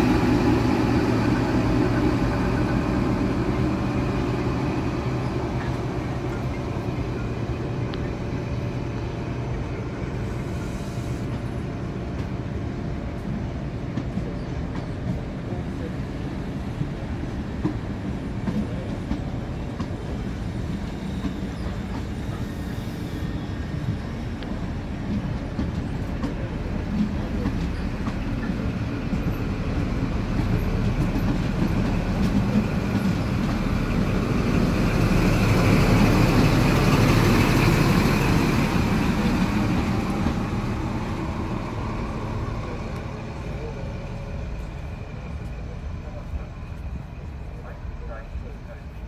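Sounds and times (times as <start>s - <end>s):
diesel train passing: 0.0s - 49.0s.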